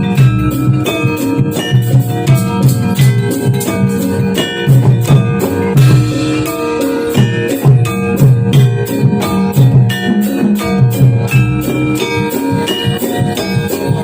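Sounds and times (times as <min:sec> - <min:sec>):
drums beating: 0:00.0 - 0:14.0
ringing struck instruments: 0:00.0 - 0:14.0.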